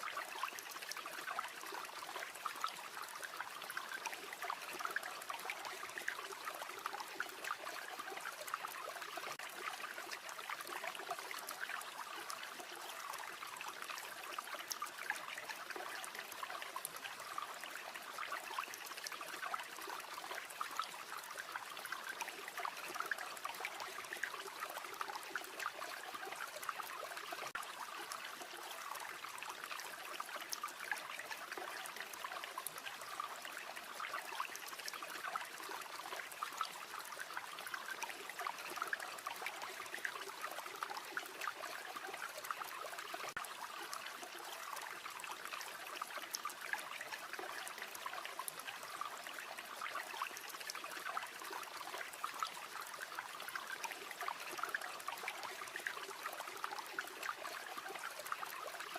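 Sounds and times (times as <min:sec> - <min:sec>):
stream flowing and babbling: 0:00.0 - 0:58.9.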